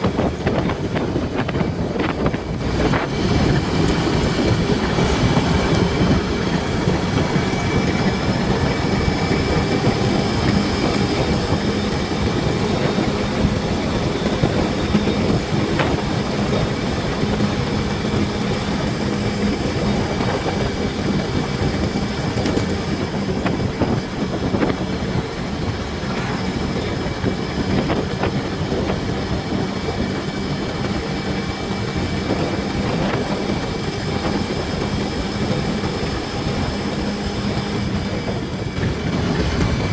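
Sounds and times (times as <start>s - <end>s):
motorcycle engine humming: 0.0s - 39.9s
road noise: 0.0s - 39.9s
wind rushing on microphone: 0.0s - 39.9s.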